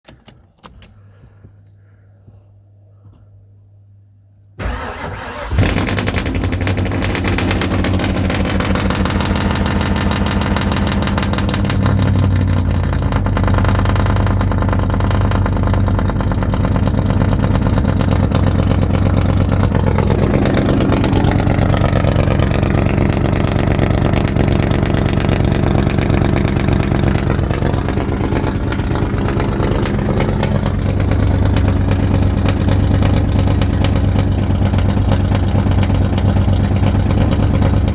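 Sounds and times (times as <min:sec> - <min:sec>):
car engine starting and idling: 0:04.6 - 0:37.9.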